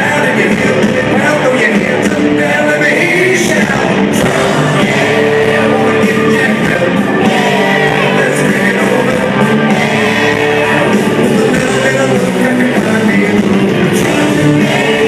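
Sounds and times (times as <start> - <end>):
country rock band playing: 0.0 - 15.0
man singing: 0.0 - 15.0.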